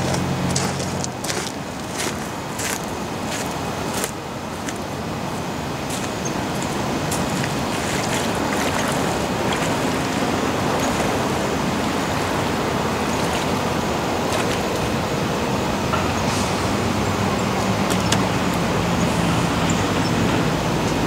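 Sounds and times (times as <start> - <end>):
water sloshing around waders: 0.0 - 19.6
steady rushing noise: 0.0 - 21.0.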